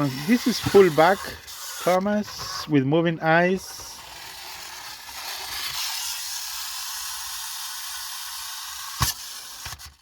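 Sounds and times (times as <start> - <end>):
toy train motor whirring: 0.0 - 10.0.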